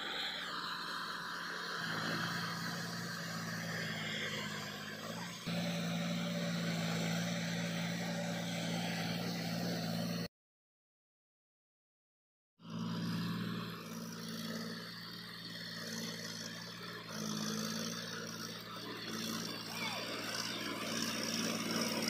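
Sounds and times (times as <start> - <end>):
tractor diesel engine under load: 0.0 - 10.3, 12.6 - 22.0.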